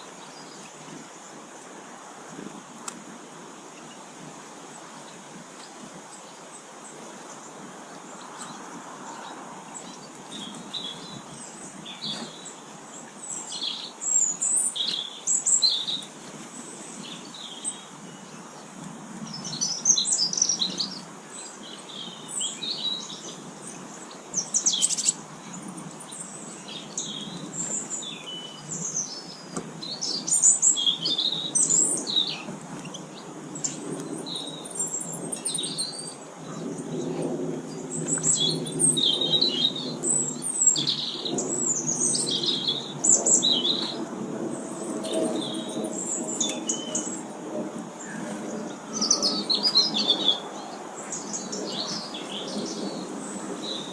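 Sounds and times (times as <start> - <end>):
songbirds chirping and twittering: 0.0 - 53.9.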